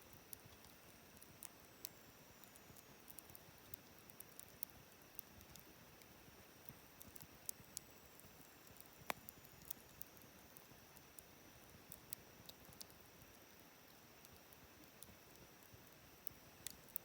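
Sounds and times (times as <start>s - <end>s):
wood fire crackling faintly: 0.0s - 17.0s.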